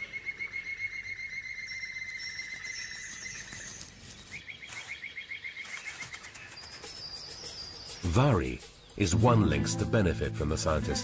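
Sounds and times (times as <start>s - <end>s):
birds singing trills and chirps: 0.0s - 9.6s.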